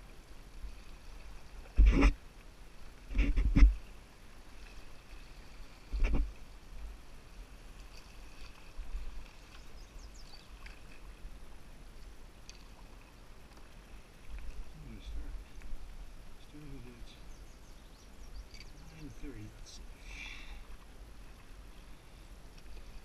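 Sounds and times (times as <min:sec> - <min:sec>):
water rushing under hull: 0:00.0 - 0:17.2, 0:18.8 - 0:23.0.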